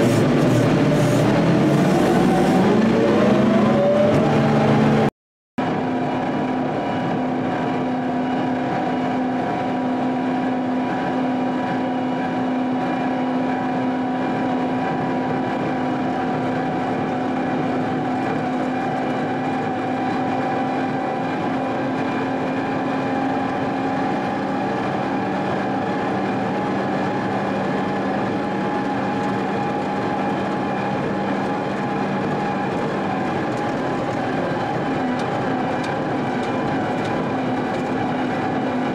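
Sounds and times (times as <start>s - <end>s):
diesel engine droning under load: 0.0s - 38.9s.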